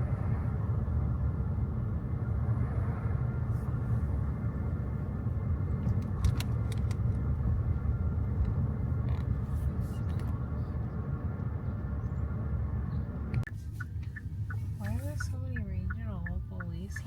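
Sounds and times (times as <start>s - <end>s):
road and tyre noise in car: 0.0s - 17.0s.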